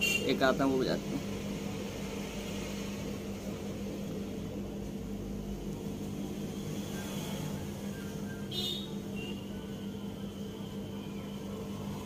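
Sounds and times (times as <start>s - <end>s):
low motor hum: 1.0s - 12.0s.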